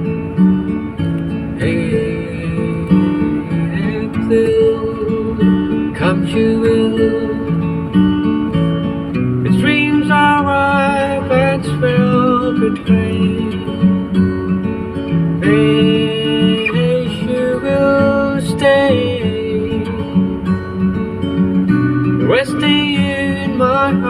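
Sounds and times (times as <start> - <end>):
acoustic guitar song: 0.0 - 24.0.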